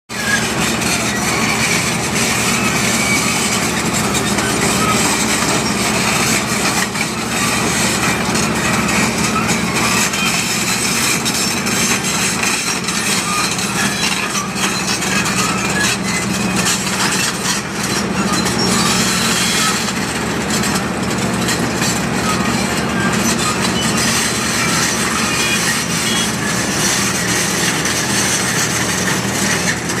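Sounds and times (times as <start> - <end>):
crawler tracks clanking on rock: 0.1 - 30.0
diesel engine running: 0.1 - 30.0.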